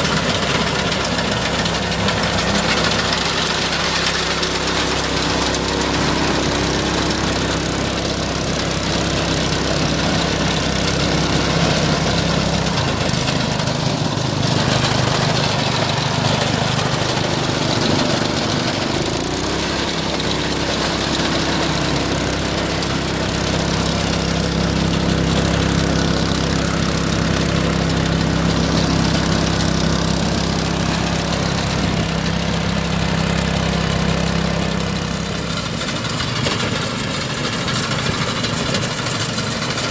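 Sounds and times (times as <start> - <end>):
cutter bar mowing dry stalks: 0.0 - 39.9
small petrol engine running: 0.0 - 39.9.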